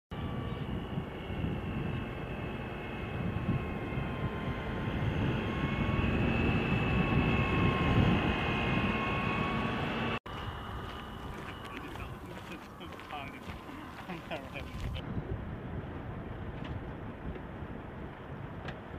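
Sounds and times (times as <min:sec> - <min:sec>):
steady high whine: 0:00.1 - 0:18.9.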